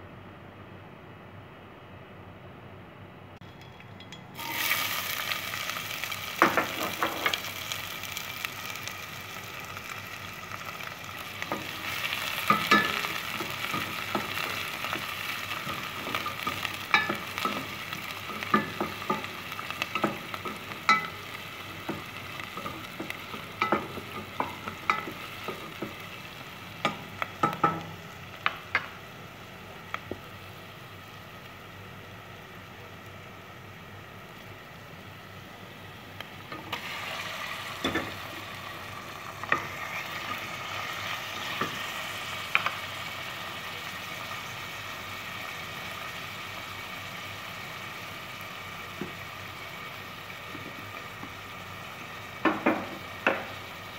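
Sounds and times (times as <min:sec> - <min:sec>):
onion sizzling in oil: 0:04.4 - 0:53.9.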